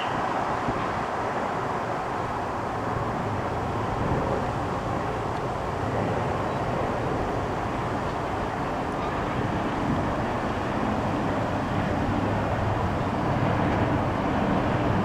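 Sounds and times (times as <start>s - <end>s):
airliner jet rumble overhead: 0.0s - 15.0s.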